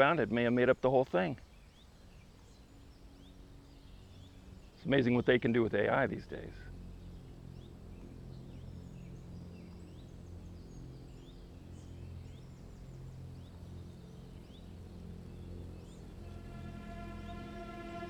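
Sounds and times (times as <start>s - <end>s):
low steady hum: 1.5s - 18.0s.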